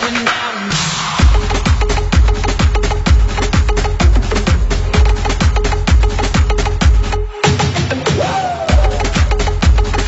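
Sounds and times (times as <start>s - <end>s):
high percussion: 0.0s - 10.0s
kick drum: 1.2s - 10.0s.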